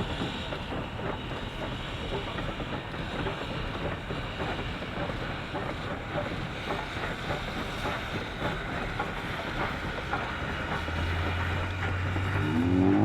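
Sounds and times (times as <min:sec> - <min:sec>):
train wheels clicking over rails: 0:00.0 - 0:13.0.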